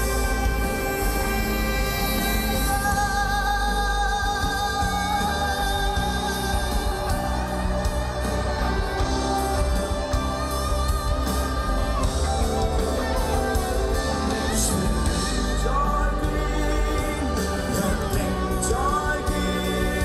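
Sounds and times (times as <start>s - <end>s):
live band music: 0.0s - 20.0s
man singing long notes: 0.0s - 20.0s.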